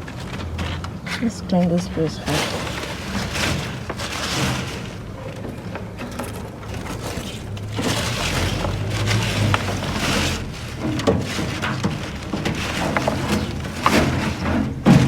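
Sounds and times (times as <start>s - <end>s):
scraping and rustling swishes: 2.0s - 15.0s.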